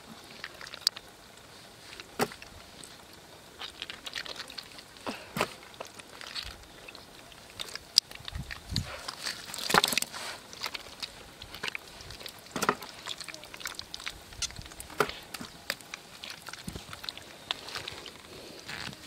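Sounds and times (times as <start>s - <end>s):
hands squelching through wet mud: 0.2s - 19.0s.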